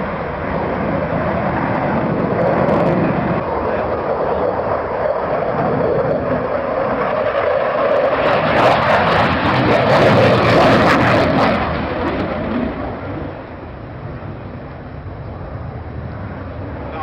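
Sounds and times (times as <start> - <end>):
aircraft flying past: 0.0 - 17.0.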